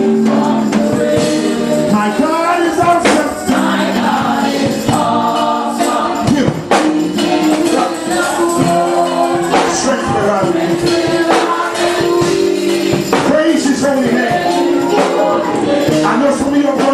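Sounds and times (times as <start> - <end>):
gospel choir singing with a band: 0.0 - 16.9
tambourine shaking: 0.0 - 16.9.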